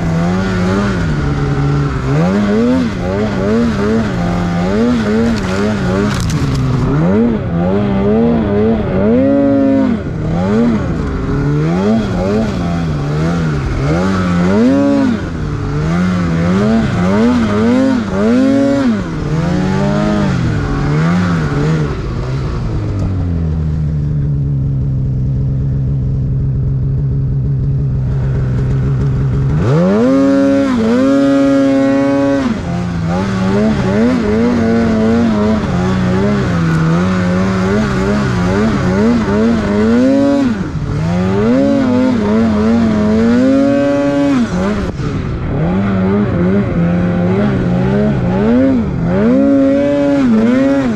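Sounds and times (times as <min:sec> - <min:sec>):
snowmobile engine revving: 0:00.0 - 0:24.2, 0:28.0 - 0:50.9.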